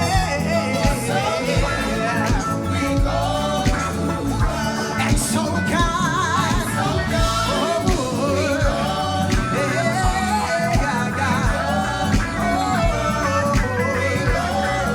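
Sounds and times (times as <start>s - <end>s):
band with steady drum beat: 0.0s - 14.9s
person singing with vibrato: 0.0s - 14.9s.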